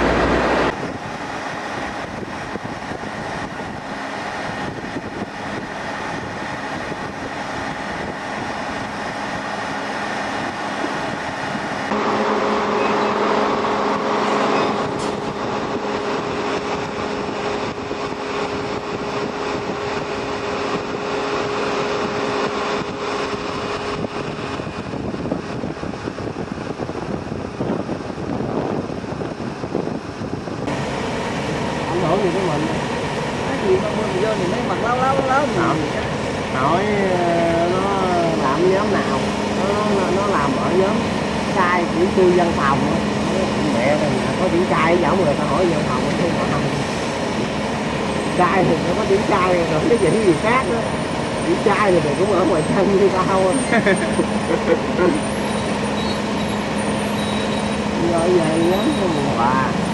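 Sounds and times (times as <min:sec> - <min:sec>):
heavy machinery running: 0:00.0 - 0:59.9
louder steady hum: 0:00.0 - 0:59.9.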